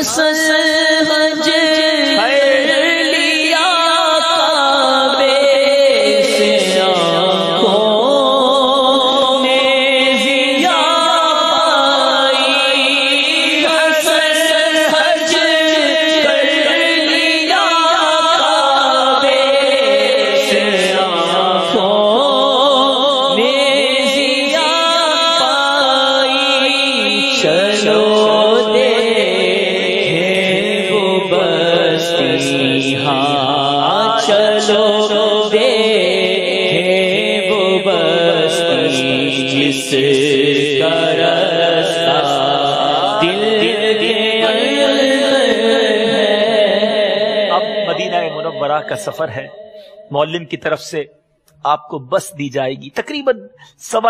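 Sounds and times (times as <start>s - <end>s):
person chanting a devotional verse: 0.0s - 54.0s.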